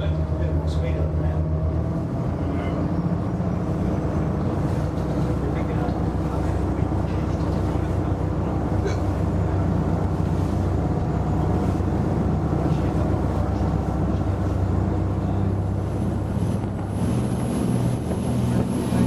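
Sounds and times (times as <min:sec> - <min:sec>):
diesel engines droning: 0:00.0 - 0:19.0
water rushing along hull: 0:00.0 - 0:19.0.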